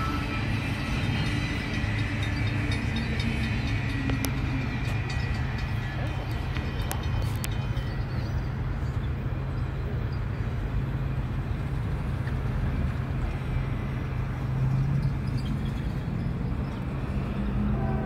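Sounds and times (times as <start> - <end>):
freight train rumbling on tracks: 0.0 - 18.0.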